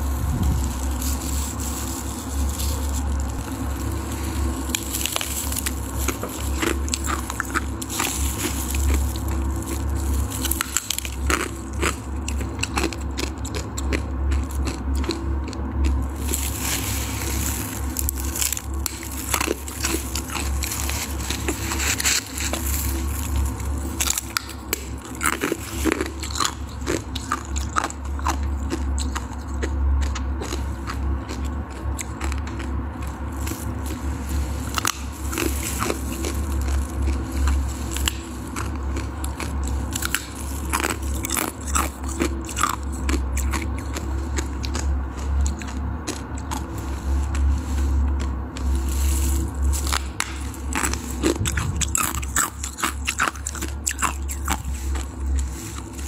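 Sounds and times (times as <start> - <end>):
ice being chewed: 0.0 - 56.0
low hum: 0.0 - 56.0.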